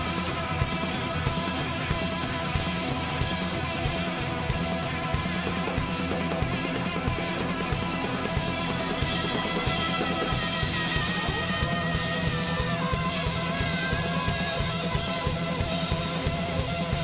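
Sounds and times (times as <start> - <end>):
electric guitar sustained notes: 0.0 - 17.0
fast drumming on drum kit: 0.0 - 17.0.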